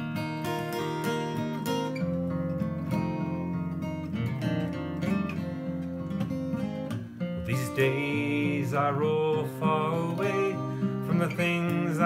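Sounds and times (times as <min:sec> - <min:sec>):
acoustic guitars playing: 0:00.0 - 0:12.0.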